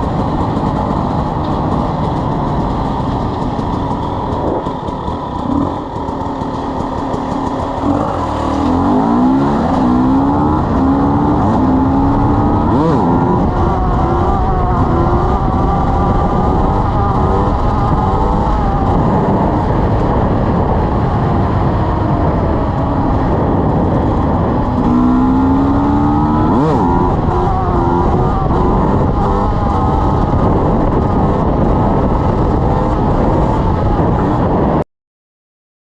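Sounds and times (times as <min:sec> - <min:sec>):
two-stroke engine revving: 0:00.0 - 0:34.8.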